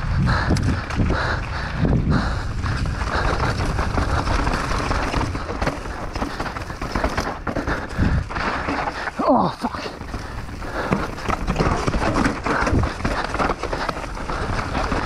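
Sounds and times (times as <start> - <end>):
bike rattling and clicking: 0.0 - 15.0
bike tyres rumbling over rough ground: 0.0 - 15.0.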